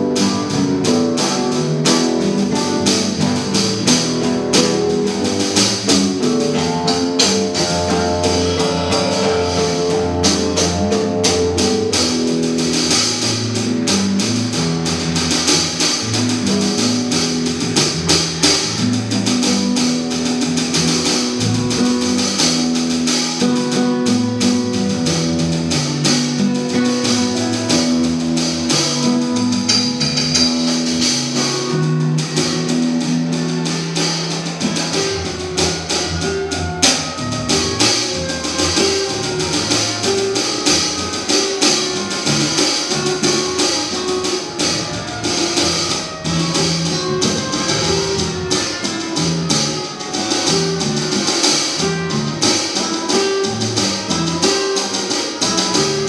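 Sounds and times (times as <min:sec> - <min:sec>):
drums with cymbals: 0:00.0 - 0:56.0
guitar holding long notes: 0:00.0 - 0:56.0.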